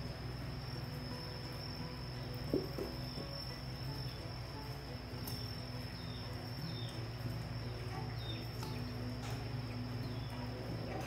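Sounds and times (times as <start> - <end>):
high-pitched insect trill: 0.0 - 11.0
low steady hum: 0.0 - 11.0.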